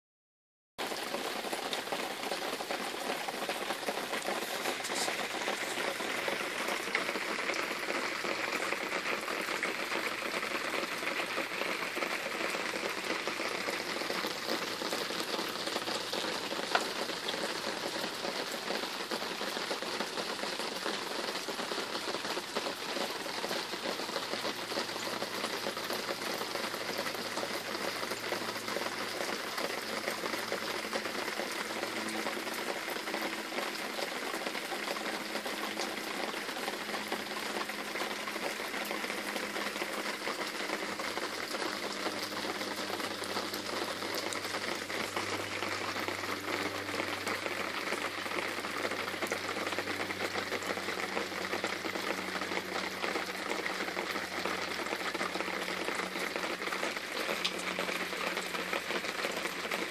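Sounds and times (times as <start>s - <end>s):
steady rain hiss: 0.8s - 59.9s.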